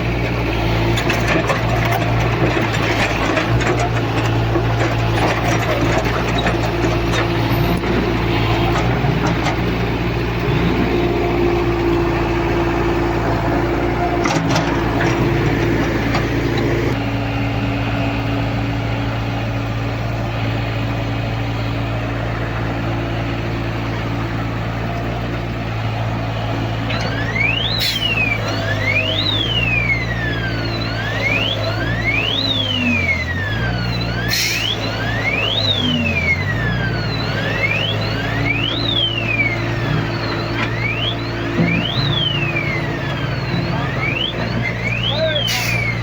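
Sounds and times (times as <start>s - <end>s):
backhoe diesel engine running: 0.0s - 46.0s.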